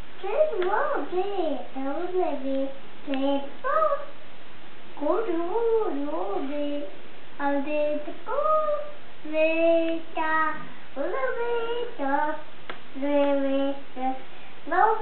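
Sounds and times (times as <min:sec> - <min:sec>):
toddler reading aloud sing-song: 0:00.2 - 0:04.2, 0:05.0 - 0:15.0.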